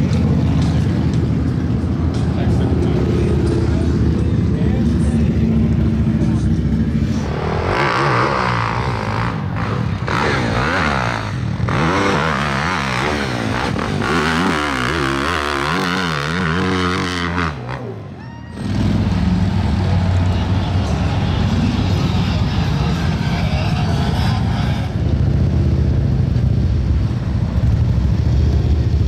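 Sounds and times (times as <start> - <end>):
dirt bike engines revving: 0.0 - 29.0
low engine rumble: 0.0 - 29.0.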